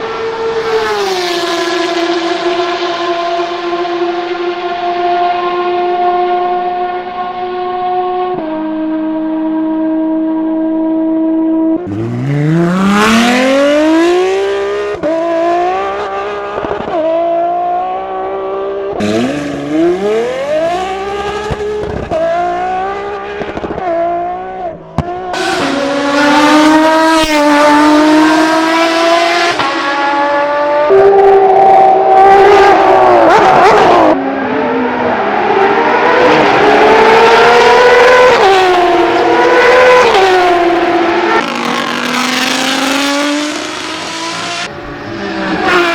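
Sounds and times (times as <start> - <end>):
sports car engines revving: 0.0 - 45.9.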